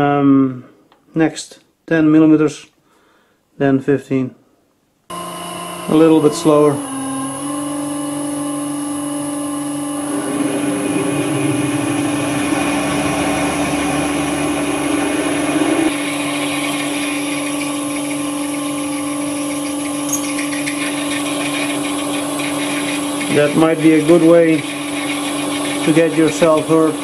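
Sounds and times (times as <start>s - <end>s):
drill grinding metal: 5.1s - 27.0s
metal lathe humming: 5.1s - 27.0s.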